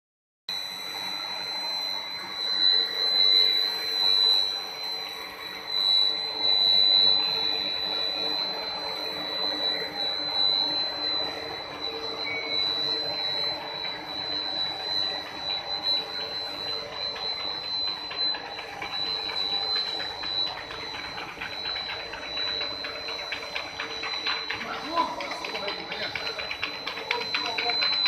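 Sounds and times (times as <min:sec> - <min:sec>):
machine hum with high whine: 0:00.5 - 0:28.0.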